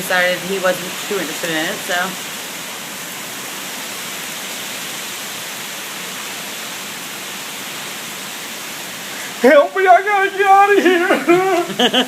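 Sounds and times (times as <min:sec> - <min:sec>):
wind-driven rain rushing: 0:00.0 - 0:12.0.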